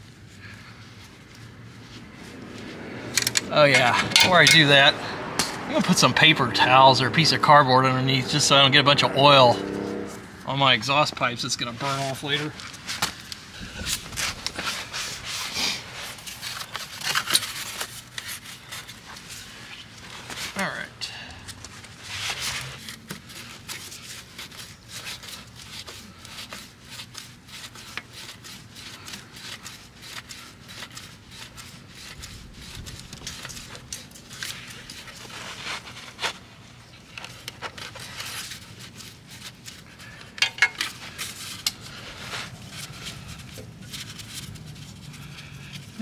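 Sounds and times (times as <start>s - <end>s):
hand rustling and scraping: 0.0s - 8.7s, 10.0s - 46.0s.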